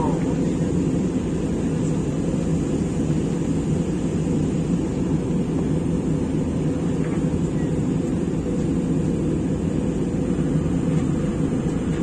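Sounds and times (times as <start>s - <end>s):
aircraft cabin engine and airflow rush: 0.0s - 12.0s.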